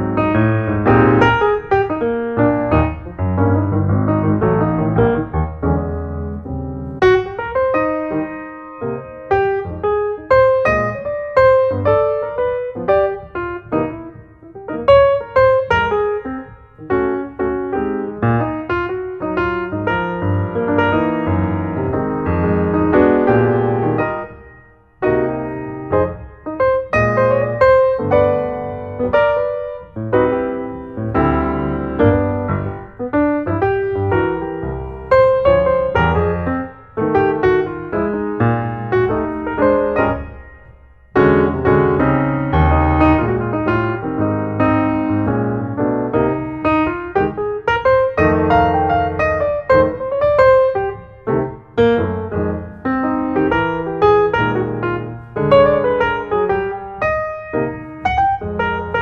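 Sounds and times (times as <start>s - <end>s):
piano music: 0.0s - 59.0s.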